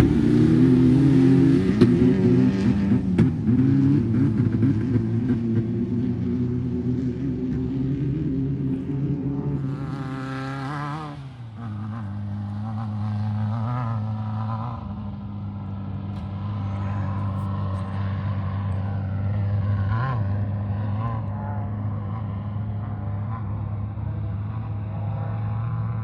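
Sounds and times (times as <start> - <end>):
race car engine running: 0.0 - 26.0.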